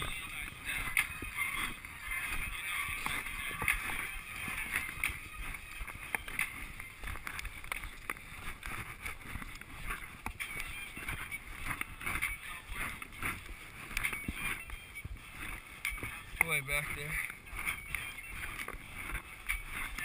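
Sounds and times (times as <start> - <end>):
ski poles crunching into snow: 0.0 - 20.0
skis scraping over snow: 0.0 - 20.0.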